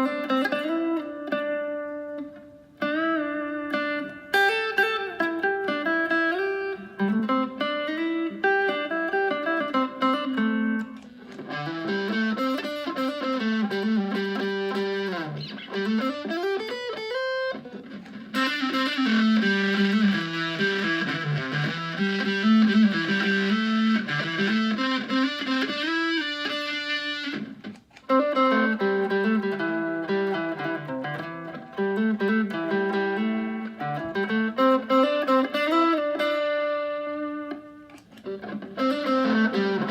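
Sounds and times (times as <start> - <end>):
electric guitar melody with slides: 0.0 - 39.9.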